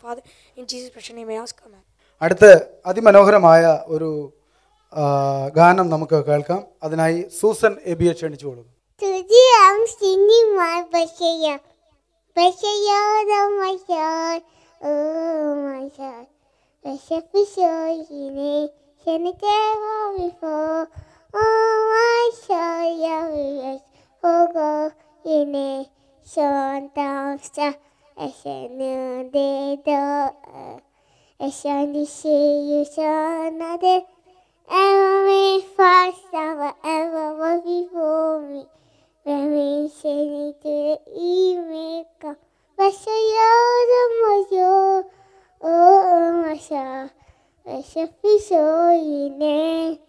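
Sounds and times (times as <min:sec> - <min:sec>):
girl singing unaccompanied: 0:00.0 - 0:02.4, 0:09.0 - 0:50.0.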